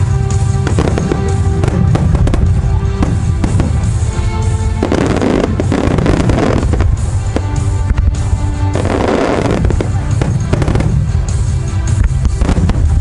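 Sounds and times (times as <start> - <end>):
fireworks bangs and pops: 0.0 - 13.0
music playing: 0.0 - 13.0.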